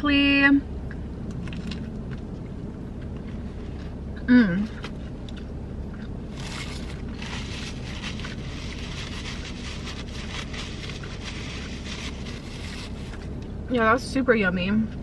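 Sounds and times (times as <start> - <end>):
low car cabin hum: 0.0 - 15.0.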